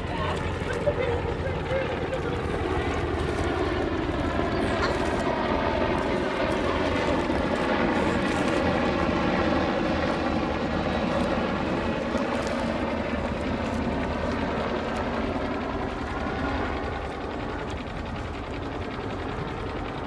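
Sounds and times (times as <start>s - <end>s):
engine droning hum: 0.0s - 20.0s.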